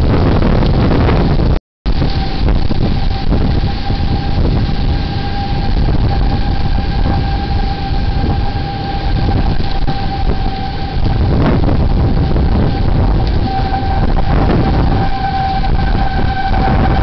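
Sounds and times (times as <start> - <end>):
wind buffeting microphone: 0.0 - 17.0
warning siren steady tone: 1.9 - 17.0.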